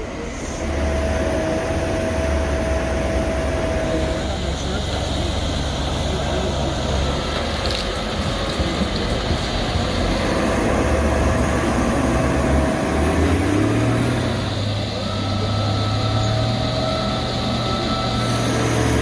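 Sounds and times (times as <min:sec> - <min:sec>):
heavy diesel engine under load: 0:00.0 - 0:19.0.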